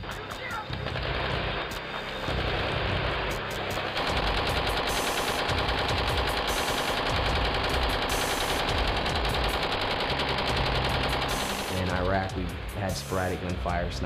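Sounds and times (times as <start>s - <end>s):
machine guns firing in bursts: 0.1s - 12.3s.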